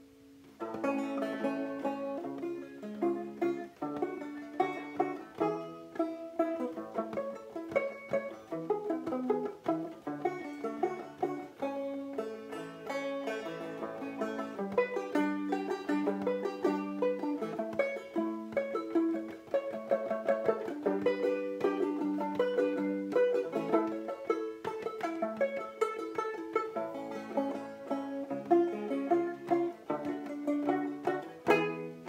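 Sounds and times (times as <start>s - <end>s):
banjo playing: 0.0s - 32.0s.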